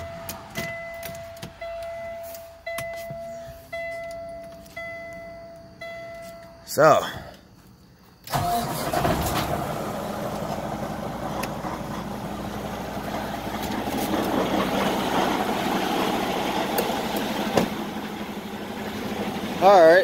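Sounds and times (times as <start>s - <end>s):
diesel truck engine starting and idling: 0.0s - 6.2s, 8.2s - 20.0s.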